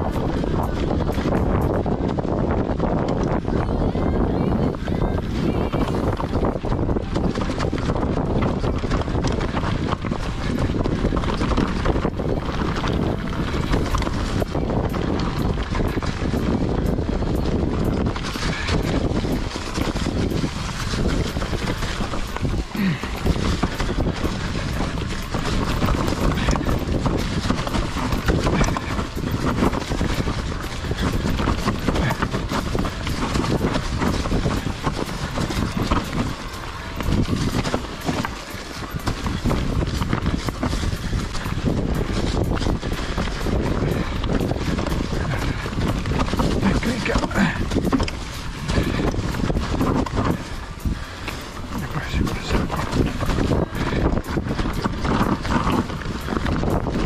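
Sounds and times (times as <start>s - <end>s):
wind rushing over microphone: 0.0s - 57.0s
bike clicks and knocks: 5.3s - 57.0s
tyres rolling over dry leaves: 5.3s - 57.0s.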